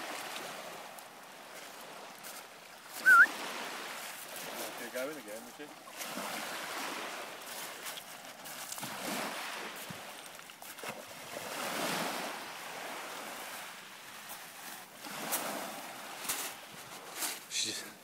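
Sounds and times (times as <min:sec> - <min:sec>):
waves washing onto pebble beach: 0:00.0 - 0:17.8.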